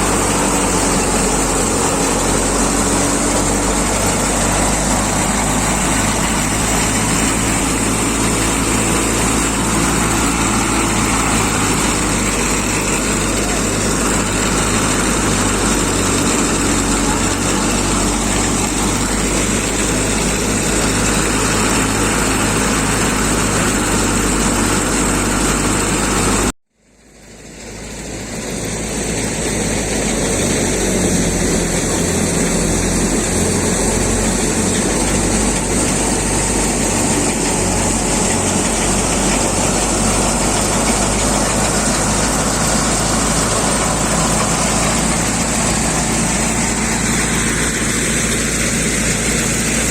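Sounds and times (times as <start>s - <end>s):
thresher rushing noise: 0.0s - 26.5s, 28.0s - 49.9s
tractor engine under load: 0.0s - 49.9s.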